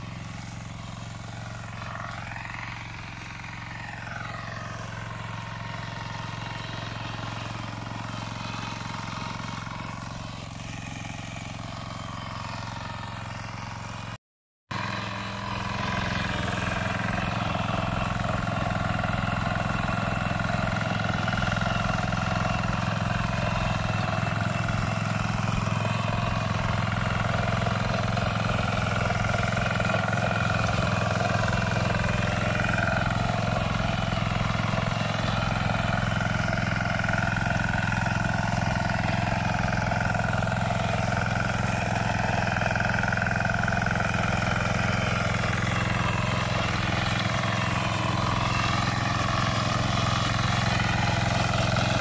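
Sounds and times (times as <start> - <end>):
tiller engine running: 0.0 - 52.0.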